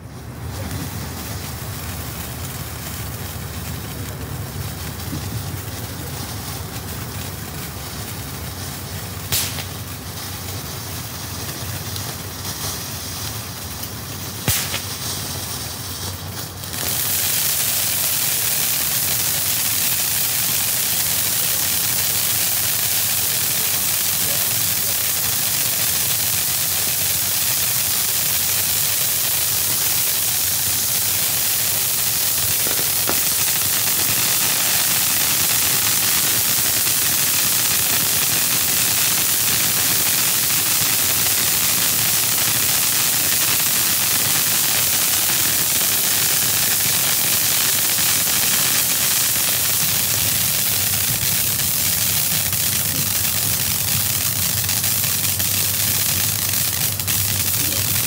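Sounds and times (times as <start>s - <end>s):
firework fountain hissing: 0.0s - 58.0s.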